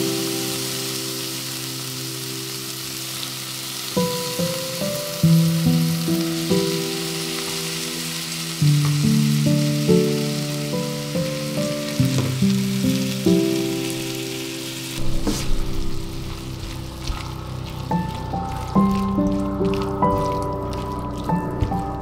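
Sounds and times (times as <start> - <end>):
vegetables sizzling in a frying pan: 0.0 - 21.7
slow background music: 0.0 - 22.0.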